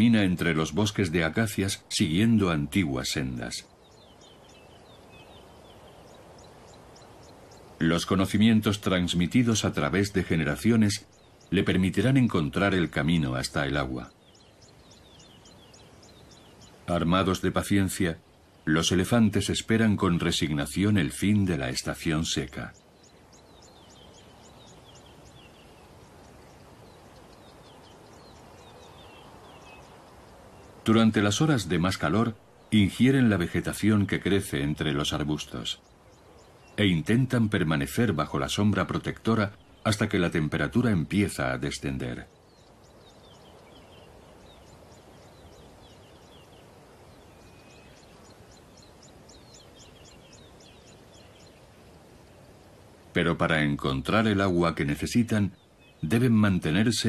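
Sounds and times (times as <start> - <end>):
faint high bird chirps: 0.0 - 57.0
steady background hiss: 0.0 - 57.0.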